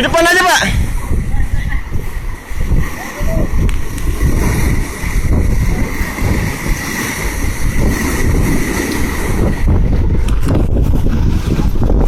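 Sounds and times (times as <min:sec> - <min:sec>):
waves washing against boat: 0:00.0 - 0:12.0
wind buffeting microphone: 0:00.0 - 0:12.0.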